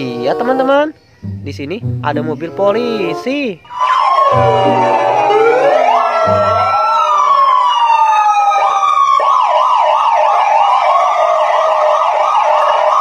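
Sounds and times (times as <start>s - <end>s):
police siren wail and yelp: 2.4s - 13.0s.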